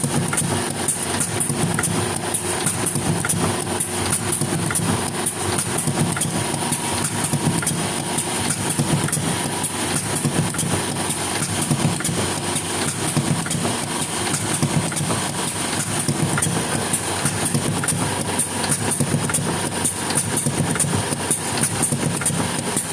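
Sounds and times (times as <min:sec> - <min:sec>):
engine running steadily: 0:00.0 - 0:22.9.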